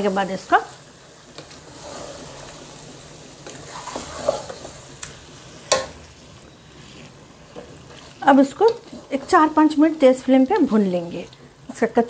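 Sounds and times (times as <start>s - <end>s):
chicken sizzling in hot oil: 0.0s - 11.9s
spatula stirring and scraping: 1.3s - 11.1s.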